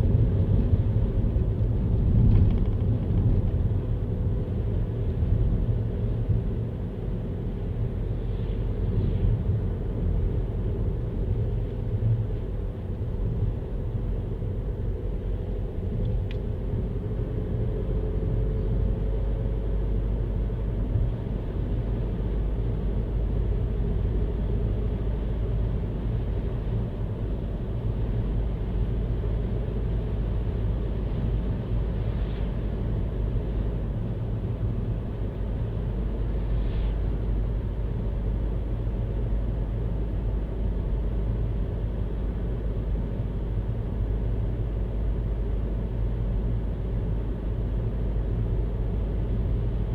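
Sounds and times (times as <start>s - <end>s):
car road and engine rumble: 0.0s - 49.9s.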